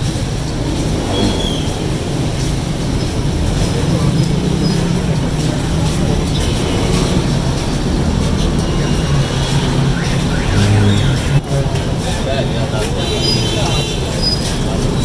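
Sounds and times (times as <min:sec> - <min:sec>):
many people talking: 0:00.0 - 0:15.0
steady traffic noise: 0:00.0 - 0:15.0.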